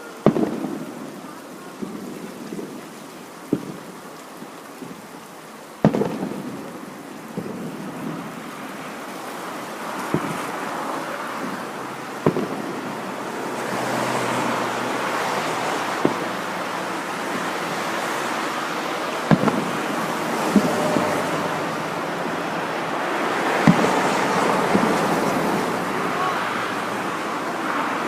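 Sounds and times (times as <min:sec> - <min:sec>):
waves breaking on a beach: 0:00.0 - 0:28.0.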